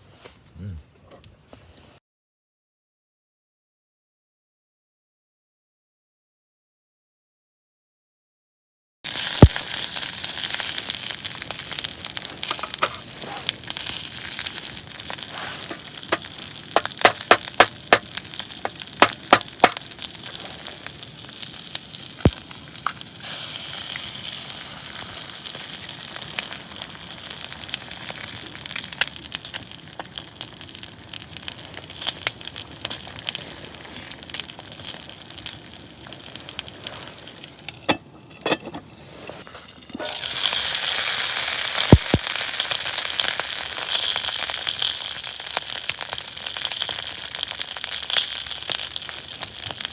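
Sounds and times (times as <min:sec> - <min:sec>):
food sizzling and crackling in a pan: 0:09.1 - 0:49.9.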